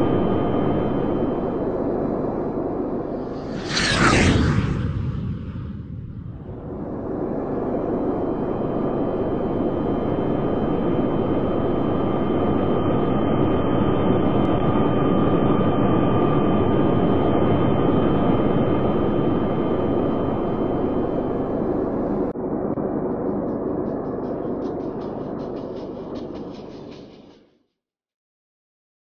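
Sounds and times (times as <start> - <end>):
faint high engine whine: 0.0 - 26.8
jet engines roaring: 0.0 - 27.0.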